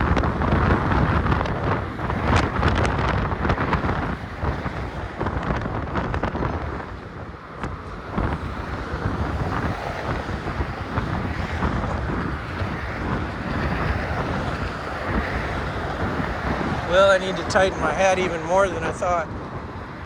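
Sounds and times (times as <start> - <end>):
road traffic: 0.0 - 20.0
wind buffeting microphone: 0.0 - 20.0.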